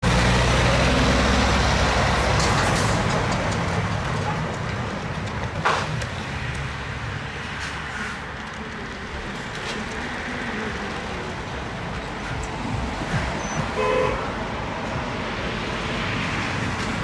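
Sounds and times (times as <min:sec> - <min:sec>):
truck diesel engine running: 0:00.0 - 0:15.7.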